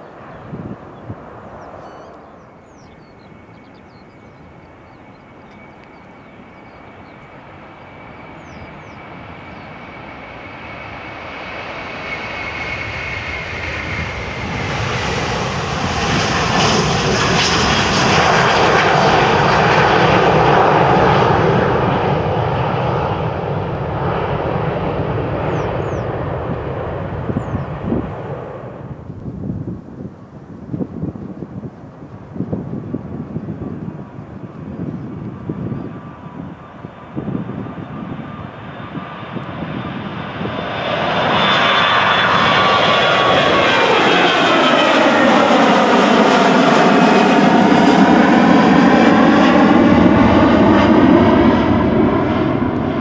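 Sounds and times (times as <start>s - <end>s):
jet taking off: 0.0s - 53.0s.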